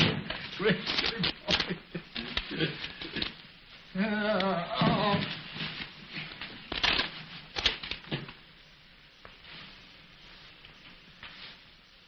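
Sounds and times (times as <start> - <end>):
film soundtrack hiss and crackle: 0.0 - 12.0.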